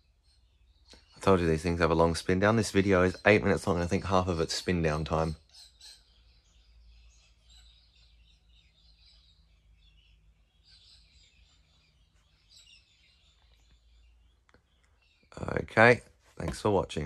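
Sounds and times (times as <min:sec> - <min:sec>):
faint high chirps: 0:00.0 - 0:17.0.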